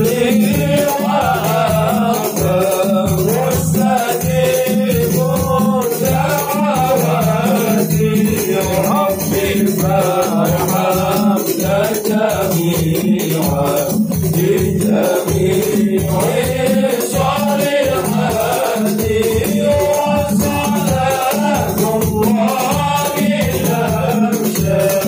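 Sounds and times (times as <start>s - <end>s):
men singing into microphones: 0.0s - 25.0s
rattling shaker percussion: 0.0s - 25.0s.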